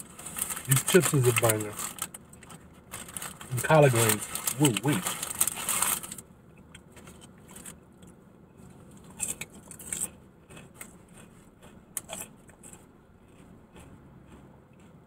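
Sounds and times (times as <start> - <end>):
noisy crunch of eating: 0.0 - 15.0.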